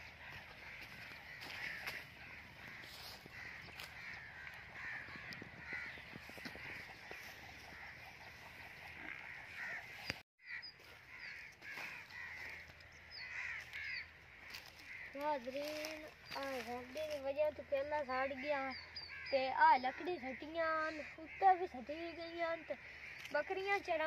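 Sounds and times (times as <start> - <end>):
crows cawing: 0.0 - 24.0.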